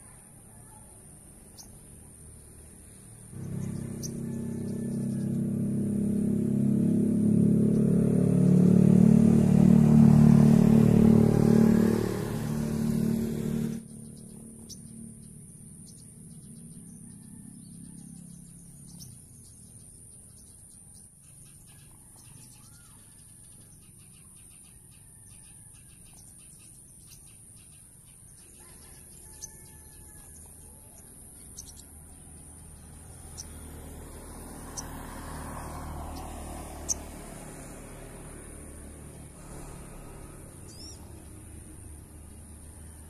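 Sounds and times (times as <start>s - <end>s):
small birds chirping: 0.0s - 6.6s, 7.2s - 8.8s, 11.8s - 43.0s.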